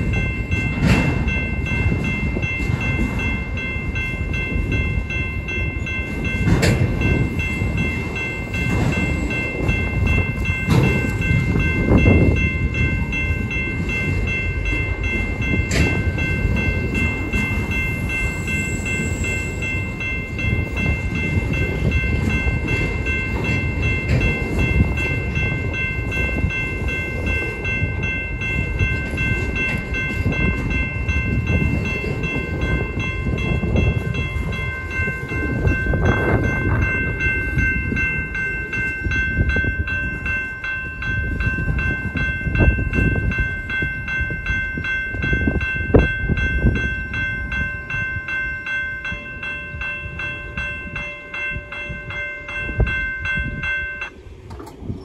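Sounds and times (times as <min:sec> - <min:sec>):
high ringing tones: 0:00.0 - 0:54.4
train wheels rumbling on rails: 0:00.0 - 0:55.0.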